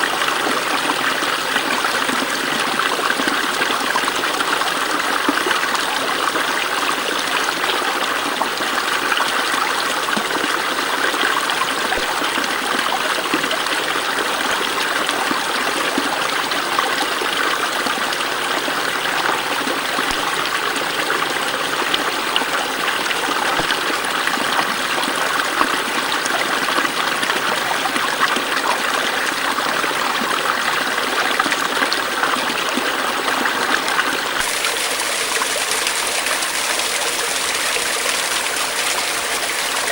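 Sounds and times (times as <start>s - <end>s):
small stream flowing: 0.0s - 39.9s.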